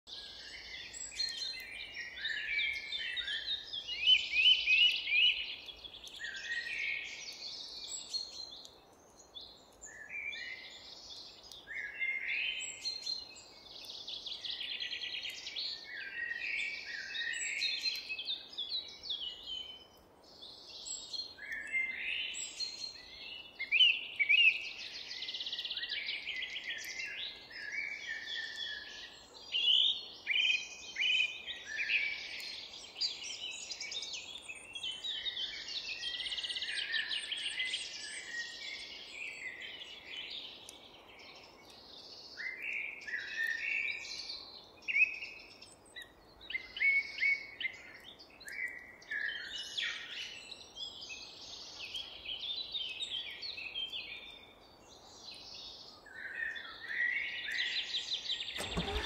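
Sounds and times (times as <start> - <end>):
songbirds singing: 0.1 - 59.0.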